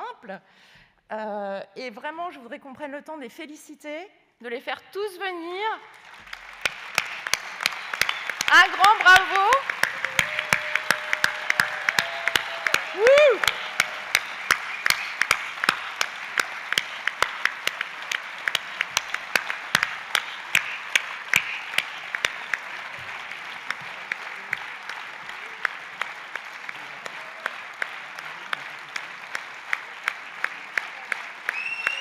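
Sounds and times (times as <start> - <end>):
audience applauding: 5.9 - 32.0
sharp hand claps close by: 6.1 - 32.0.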